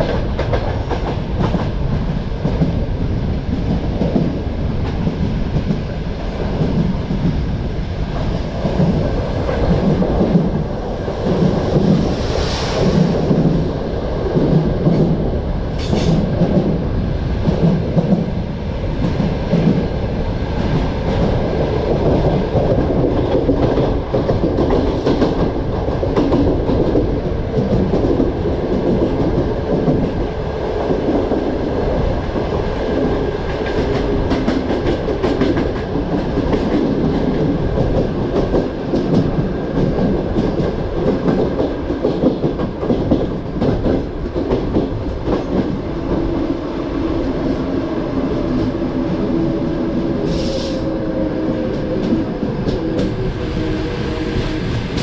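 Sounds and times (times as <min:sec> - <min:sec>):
clickety-clack over rail joints: 0:00.0 - 0:07.5, 0:08.1 - 0:13.7, 0:14.3 - 0:46.5, 0:47.2 - 0:55.0
train wheels rumbling on track: 0:00.0 - 0:55.0.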